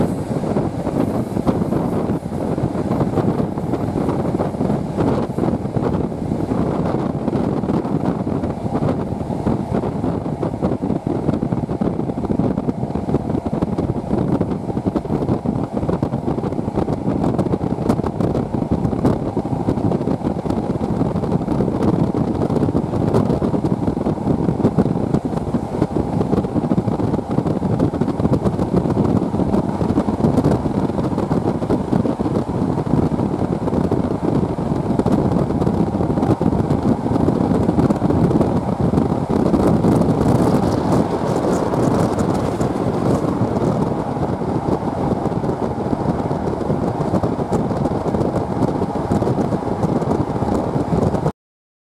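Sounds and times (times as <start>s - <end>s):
train wheels rumbling on rails: 0.0s - 51.3s
wind buffeting microphone: 0.0s - 51.3s.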